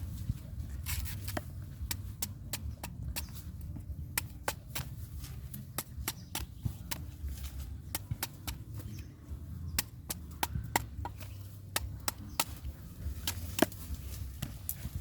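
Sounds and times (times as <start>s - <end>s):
knife chopping coconut husk: 1.0s - 9.1s, 9.7s - 14.5s.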